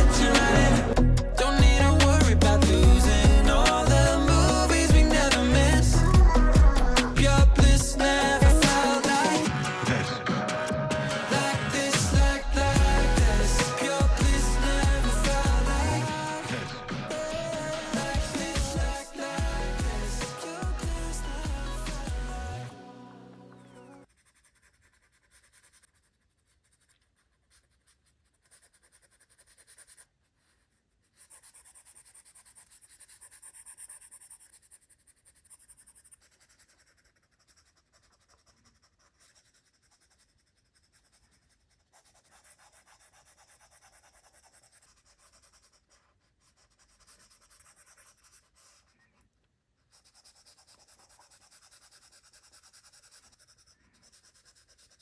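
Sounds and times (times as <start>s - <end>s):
stylus scratching on screen: 0.0s - 22.7s, 23.6s - 55.0s.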